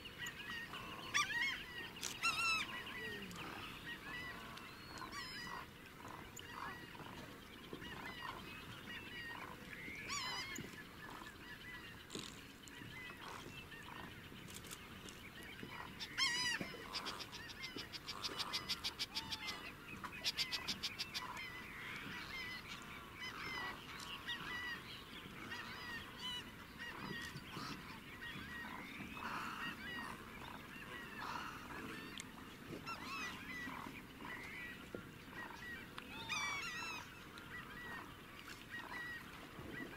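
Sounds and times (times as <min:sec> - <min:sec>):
wetland birds calling: 0:00.0 - 0:39.9.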